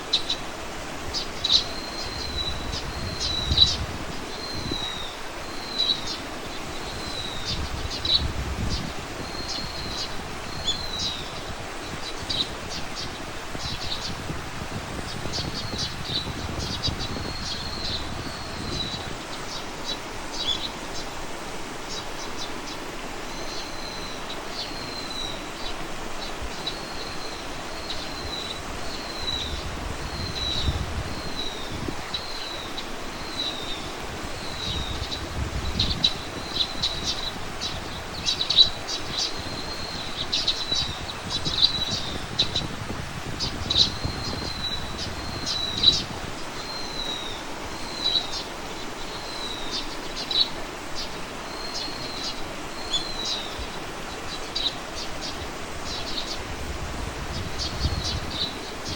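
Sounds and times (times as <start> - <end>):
background hiss: 0.0 - 58.9
small bird calling: 0.0 - 58.9.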